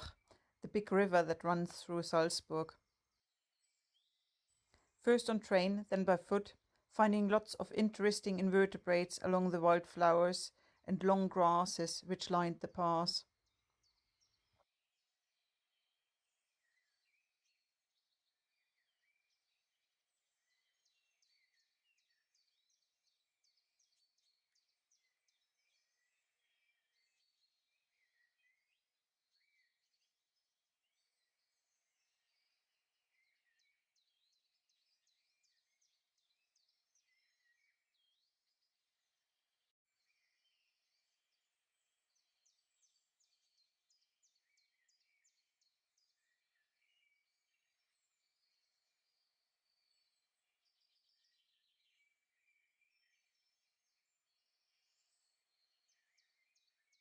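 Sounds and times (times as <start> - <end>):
faint birdsong chirps: 0.0 - 57.0.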